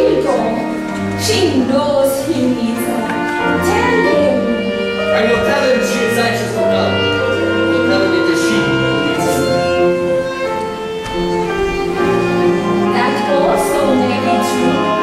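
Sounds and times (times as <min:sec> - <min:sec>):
orchestral strings holding slow notes: 0:00.0 - 0:15.0.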